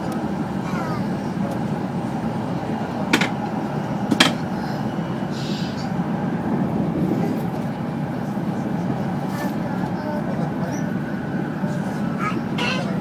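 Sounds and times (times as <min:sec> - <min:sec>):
train running inside cabin: 0:00.0 - 0:13.0.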